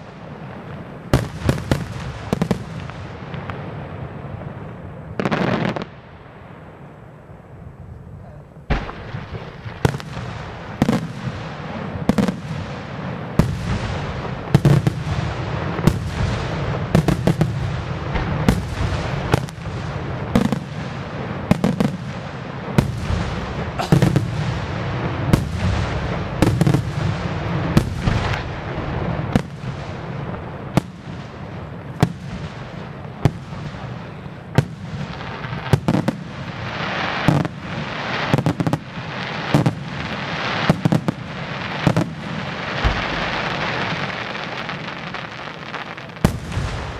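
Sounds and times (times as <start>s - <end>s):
fireworks bursting with sharp bangs: 0.0s - 46.9s
fireworks crackling: 0.0s - 46.9s.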